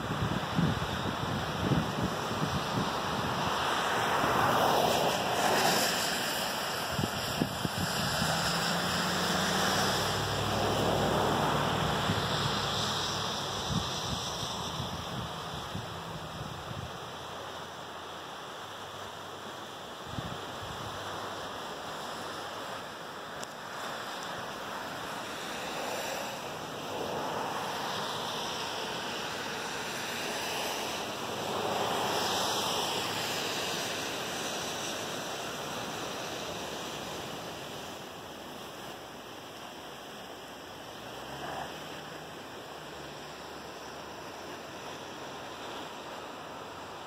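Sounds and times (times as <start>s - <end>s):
ocean surf on rocks: 0.0s - 47.0s.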